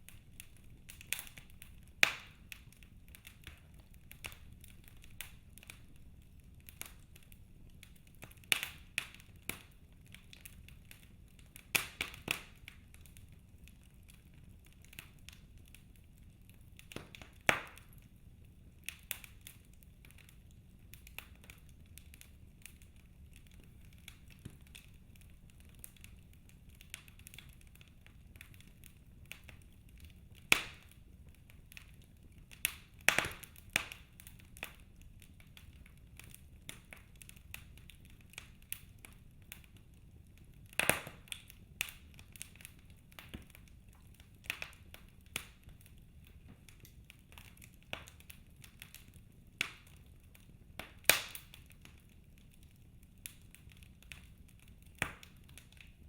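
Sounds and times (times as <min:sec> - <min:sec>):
faint low hiss: 0:00.0 - 0:56.0
wood fire crackling: 0:00.0 - 0:56.0.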